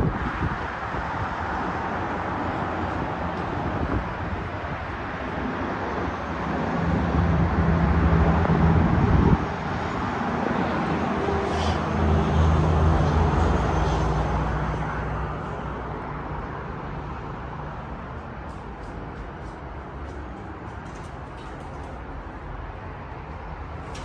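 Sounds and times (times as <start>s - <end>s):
distant traffic noise: 0.0s - 24.0s.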